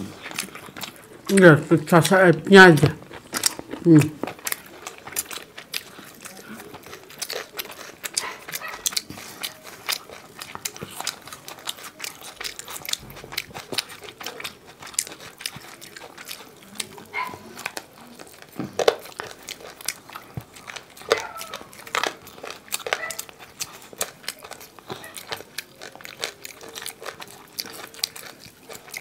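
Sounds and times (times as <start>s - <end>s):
wet chewing and lip smacks: 0.0s - 29.0s.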